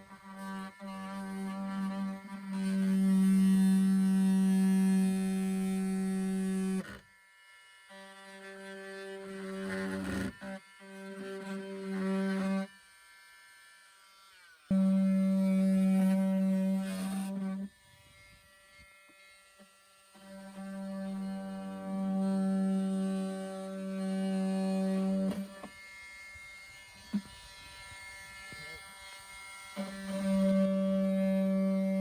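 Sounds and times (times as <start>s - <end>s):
electric power tool cutting plastic: 0.0s - 32.0s.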